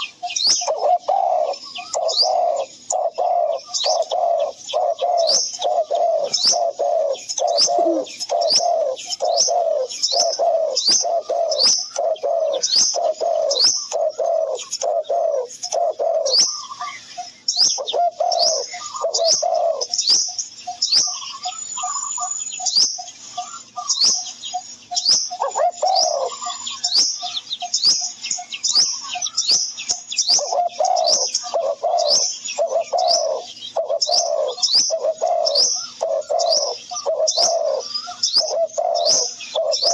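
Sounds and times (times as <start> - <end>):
dove cooing: 0.0 - 28.1, 28.7 - 39.9
small birds chirping: 0.0 - 39.9.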